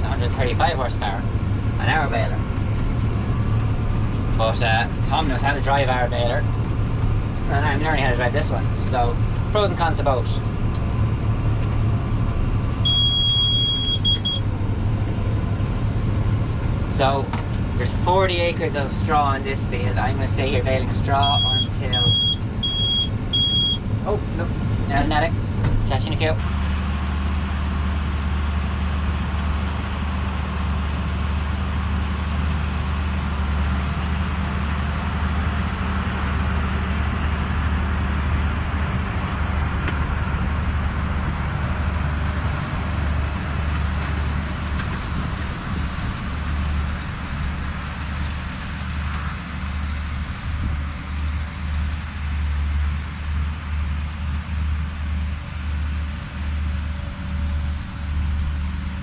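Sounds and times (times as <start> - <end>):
tractor diesel engine under load: 0.0 - 59.0
whir of baler machinery: 0.0 - 59.0.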